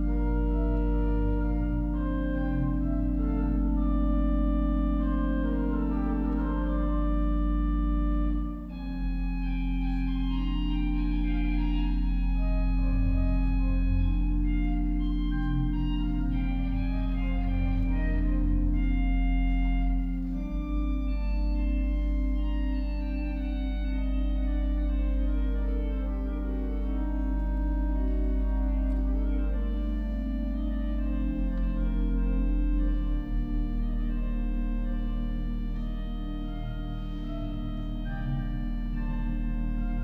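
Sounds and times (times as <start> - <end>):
pipe organ playing: 0.0 - 40.0.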